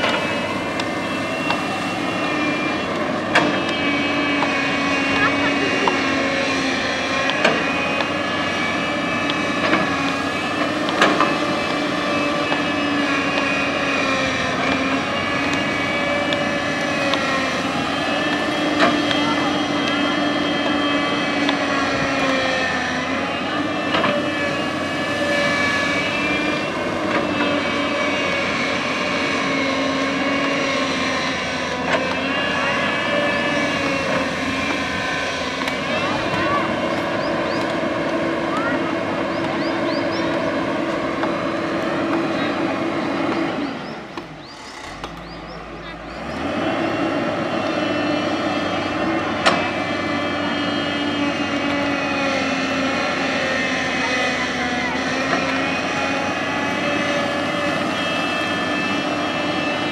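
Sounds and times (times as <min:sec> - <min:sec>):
excavator diesel engine running: 0:00.0 - 0:59.9
hydraulic whine: 0:00.0 - 0:59.9.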